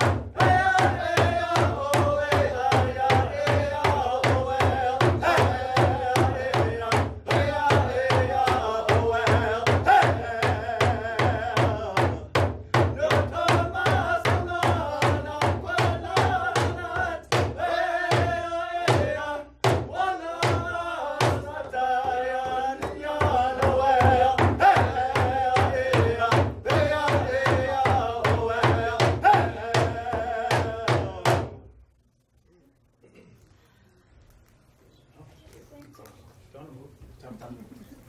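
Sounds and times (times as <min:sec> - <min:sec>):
hand drum beat: 0:00.0 - 0:31.6
men singing together: 0:00.0 - 0:31.7.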